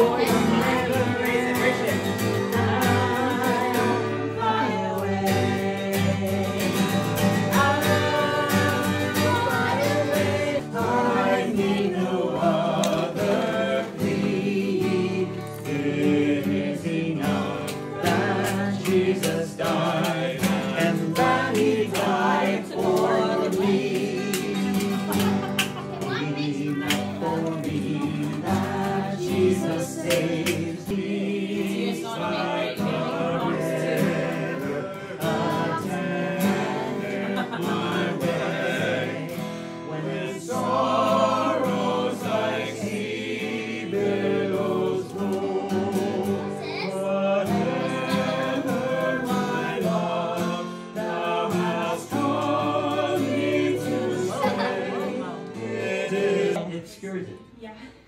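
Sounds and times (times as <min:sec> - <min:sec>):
several voices singing: 0:00.0 - 0:56.7.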